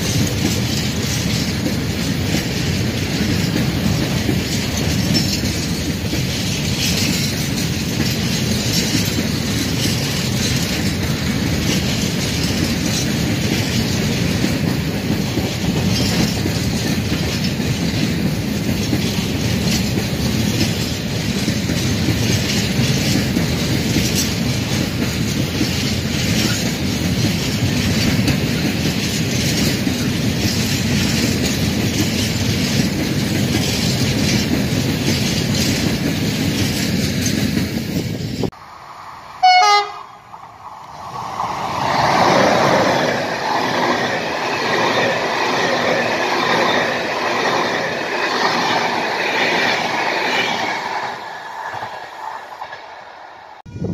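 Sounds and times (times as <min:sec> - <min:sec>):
wheels clacking over rail joints: 0:00.0 - 0:38.6, 0:39.8 - 0:53.1
train wheels rumbling on rails: 0:00.0 - 0:53.9.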